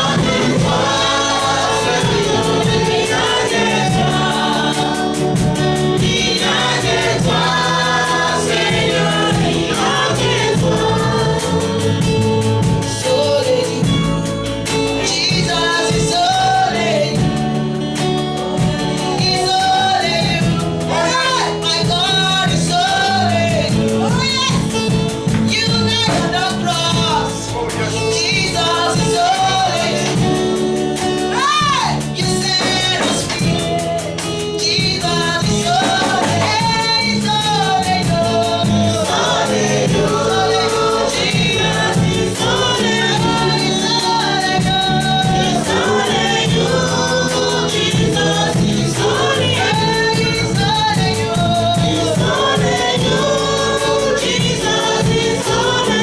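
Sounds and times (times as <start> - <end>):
choir singing gospel song: 0.0 - 56.0
instrumental accompaniment with bass: 0.0 - 56.0.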